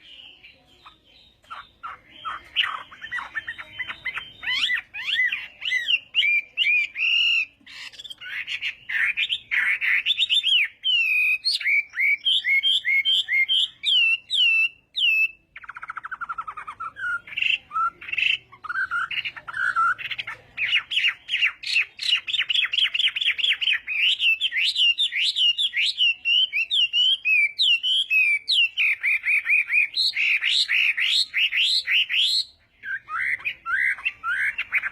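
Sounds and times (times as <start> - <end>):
songbird singing trills: 0.0 - 34.9.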